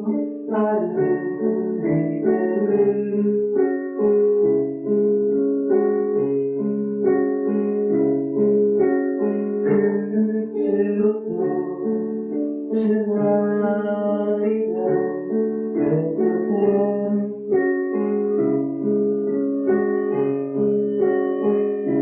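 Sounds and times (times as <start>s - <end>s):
sustained keyboard chords: 0.0s - 22.0s.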